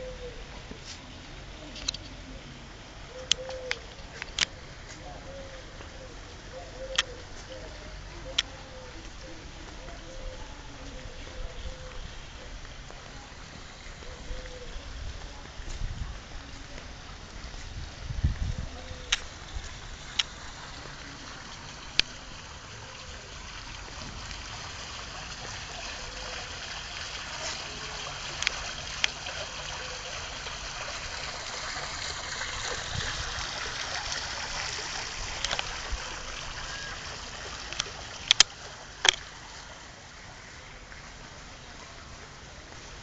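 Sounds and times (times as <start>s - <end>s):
running water hiss: 0.0s - 43.0s.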